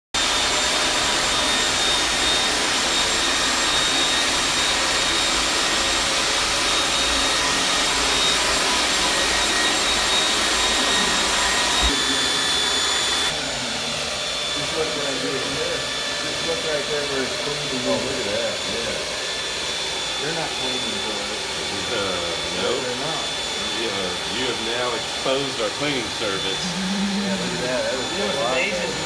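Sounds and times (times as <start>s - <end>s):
floor scrubber hiss and whine: 0.2s - 29.0s.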